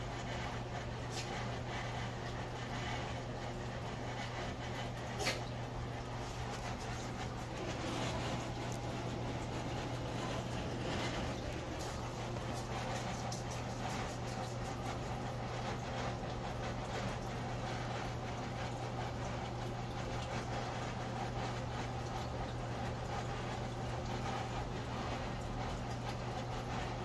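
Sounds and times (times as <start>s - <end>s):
air conditioner humming: 0.0s - 27.0s.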